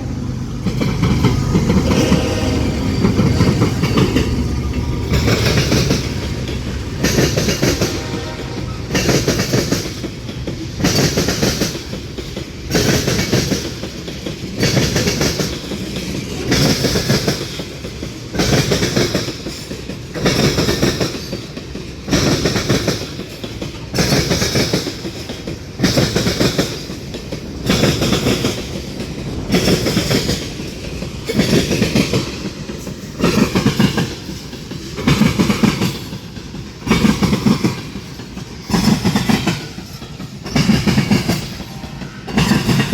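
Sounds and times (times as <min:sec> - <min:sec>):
train rolling rumble: 0:00.0 - 0:42.9
train wheels clattering on track: 0:00.0 - 0:42.9.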